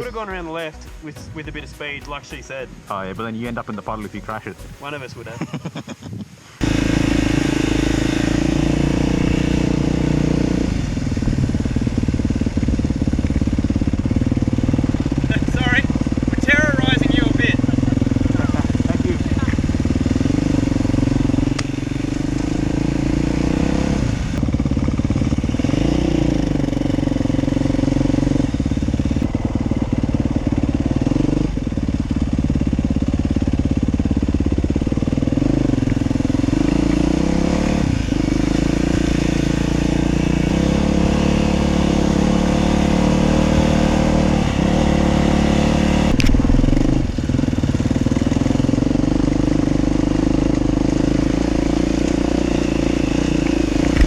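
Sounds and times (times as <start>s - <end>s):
dirt bike engine revving: 6.6s - 54.0s.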